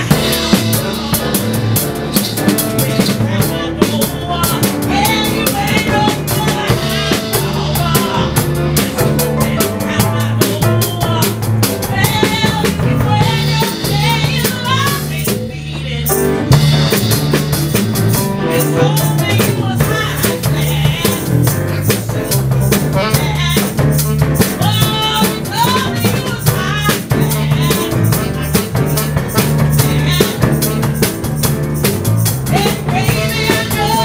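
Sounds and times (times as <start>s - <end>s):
woman singing: 0.0s - 16.4s, 18.4s - 21.5s, 22.8s - 31.2s, 32.4s - 34.0s
drum kit beat: 0.0s - 34.0s
walking bass line: 0.0s - 34.0s.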